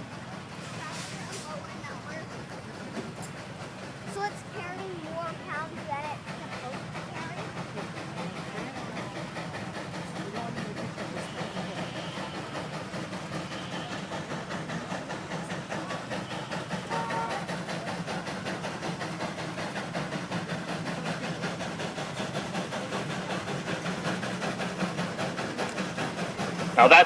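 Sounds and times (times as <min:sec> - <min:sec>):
steam traction engine working: 0:00.0 - 0:27.0.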